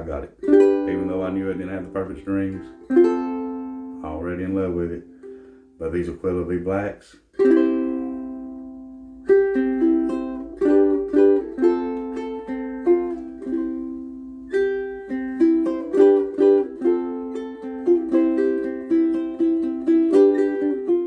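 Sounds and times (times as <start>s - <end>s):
solo ukulele playing: 0.0s - 6.3s, 7.3s - 21.0s.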